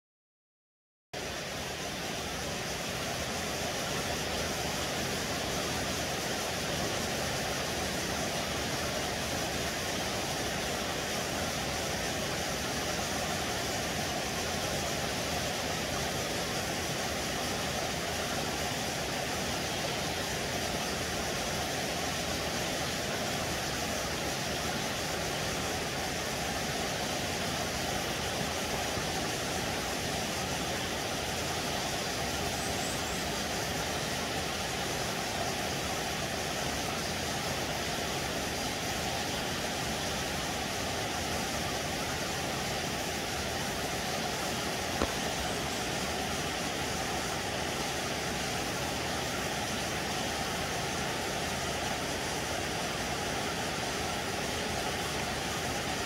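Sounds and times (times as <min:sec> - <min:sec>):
stream water rushing: 0:01.2 - 0:56.0.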